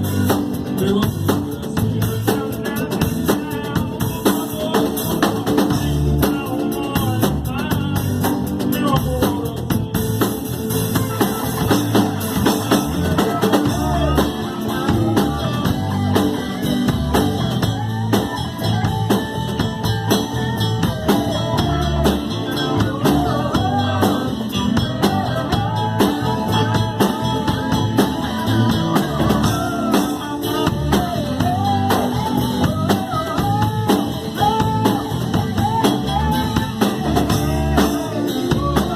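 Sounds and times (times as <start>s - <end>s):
blues band playing: 0.0s - 38.9s
drum kit: 0.0s - 38.9s
electric guitar: 0.0s - 38.9s.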